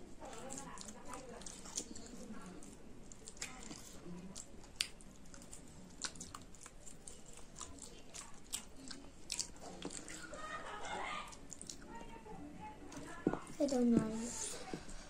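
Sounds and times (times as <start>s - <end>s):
children chewing food: 0.0s - 15.0s.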